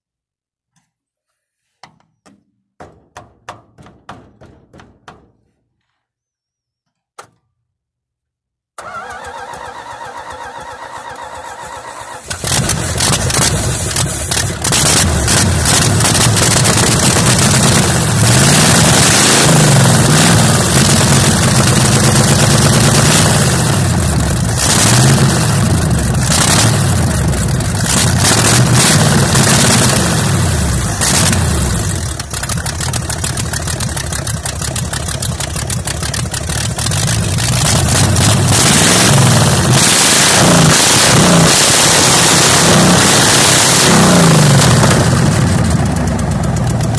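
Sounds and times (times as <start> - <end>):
engine cranking: 8.8 - 46.9
engine revving: 8.8 - 46.9.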